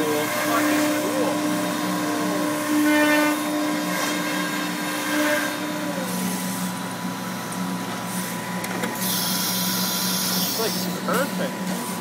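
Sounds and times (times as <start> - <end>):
cnc router cutting: 0.0 - 12.0.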